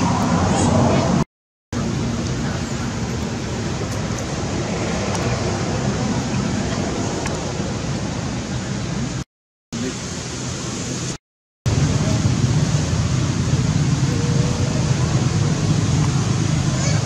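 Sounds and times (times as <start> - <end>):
steady rushing noise: 0.0 - 1.2, 1.8 - 9.2, 9.8 - 17.0.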